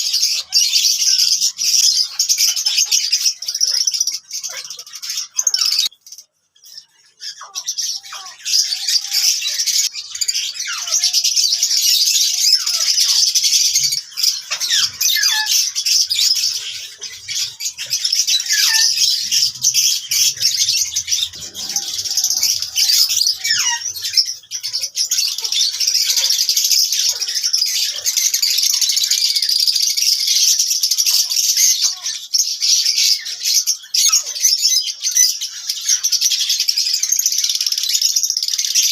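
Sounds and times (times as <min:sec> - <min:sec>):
small parrots chattering and chirping: 0:00.0 - 0:38.9.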